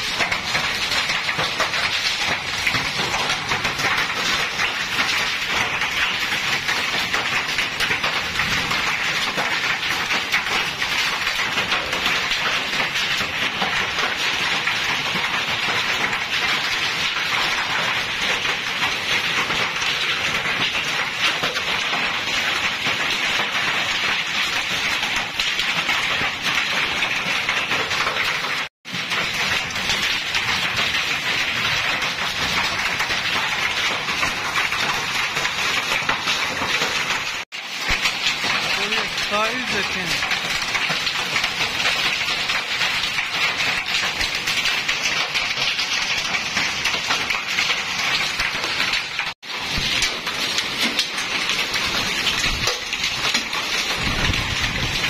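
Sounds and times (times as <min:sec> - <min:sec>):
hail and heavy rain pelting ground: 0:00.0 - 0:55.0.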